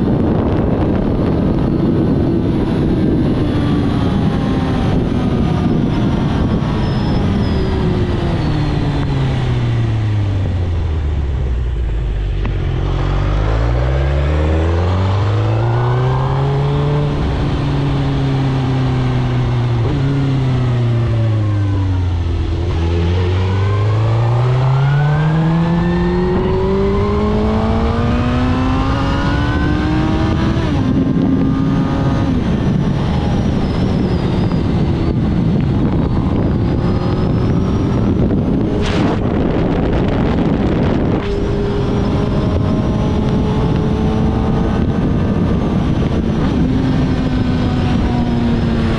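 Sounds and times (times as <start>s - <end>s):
motorcycle engine revving: 0.0s - 48.9s
wind rush: 0.0s - 48.9s.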